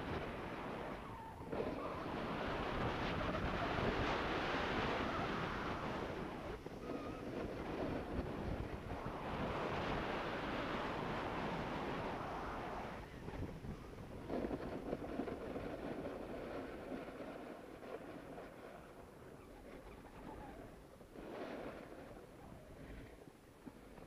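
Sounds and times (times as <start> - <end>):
snowboard scraping over snow: 0.0 - 24.0
wind buffeting microphone: 0.0 - 24.0.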